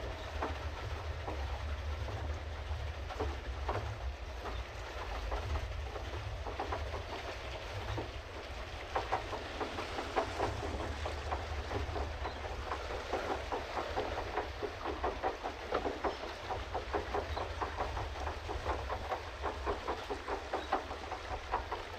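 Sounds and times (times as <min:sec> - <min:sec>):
low steady rumble: 0:00.0 - 0:20.2
paddle wheel churning water: 0:00.0 - 0:21.9.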